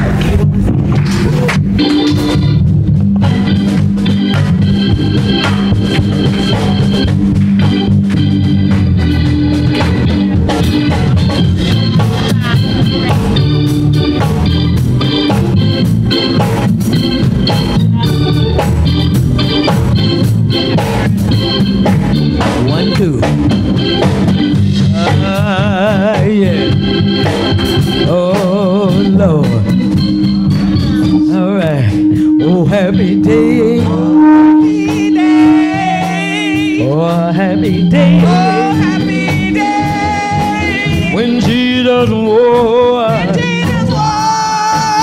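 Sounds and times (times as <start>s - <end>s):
organ playing sustained chords: 0.0s - 45.0s.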